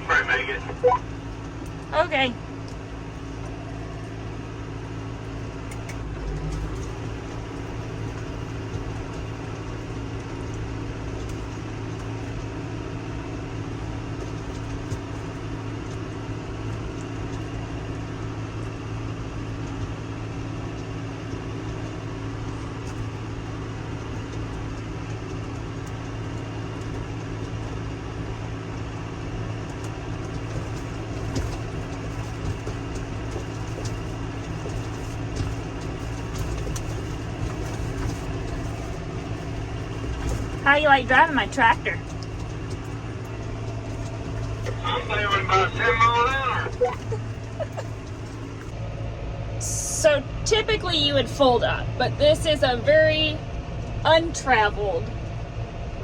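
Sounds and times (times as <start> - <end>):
tractor engine hum from cab: 0.0 - 56.0.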